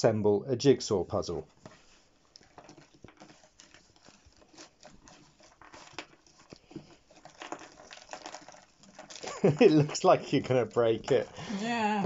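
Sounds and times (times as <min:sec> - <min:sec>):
puzzle pieces rustling and clicking: 0:01.6 - 0:11.4.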